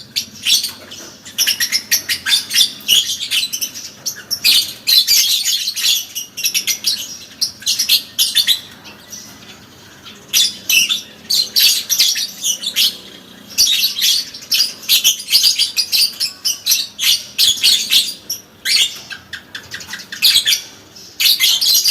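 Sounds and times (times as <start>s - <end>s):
lovebird twittering: 0.0s - 21.9s.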